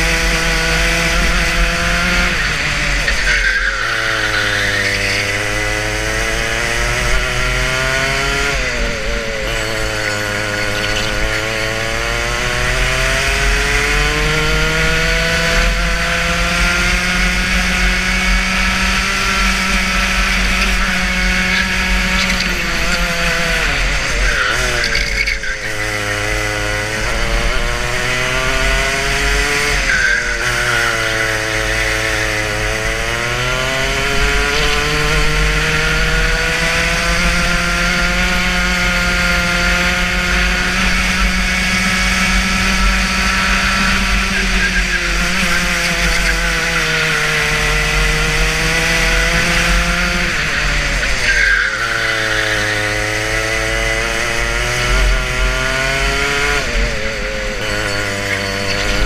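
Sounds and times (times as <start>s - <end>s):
kart engine at full throttle: 0.0s - 59.0s.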